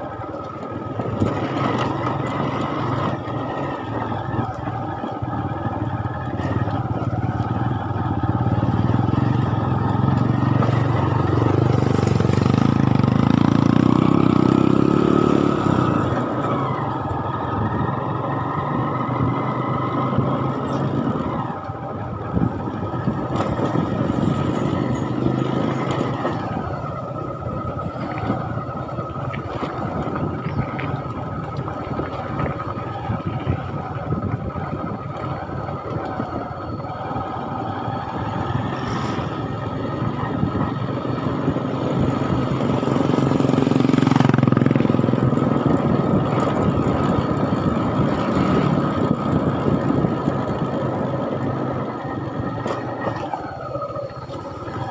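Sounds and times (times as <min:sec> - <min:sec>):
vehicle engine and tyre noise: 0:00.0 - 0:54.9.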